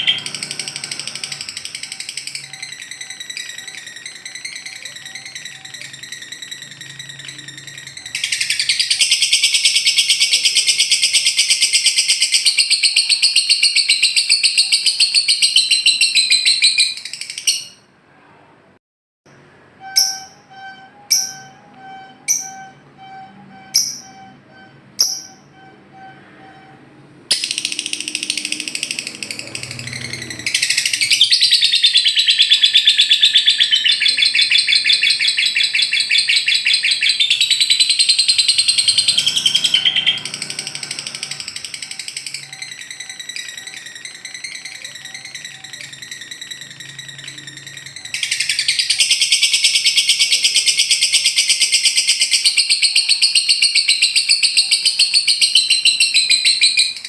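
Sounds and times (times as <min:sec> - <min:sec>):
bird chattering trill: 0:00.0 - 0:17.8, 0:27.3 - 0:57.0.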